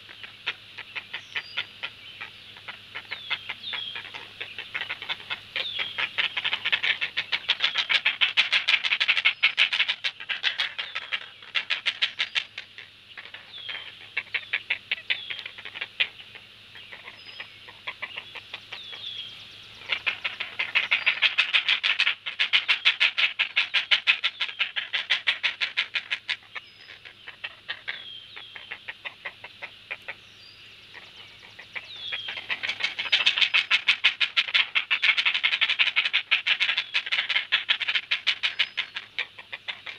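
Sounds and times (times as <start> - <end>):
heron chicks chattering begging calls: 0.0 - 39.9.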